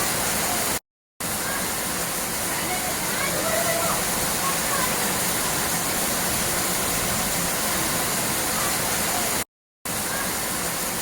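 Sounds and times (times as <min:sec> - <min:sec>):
rushing water roar: 0:00.0 - 0:11.0.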